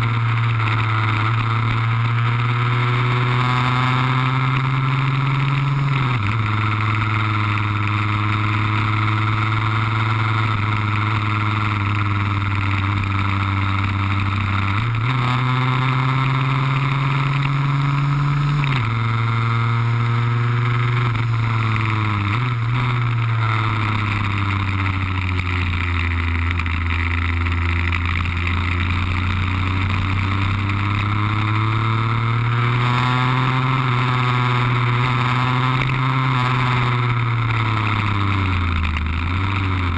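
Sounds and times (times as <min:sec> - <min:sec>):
two-stroke scooter engine revving: 0:00.0 - 0:39.9.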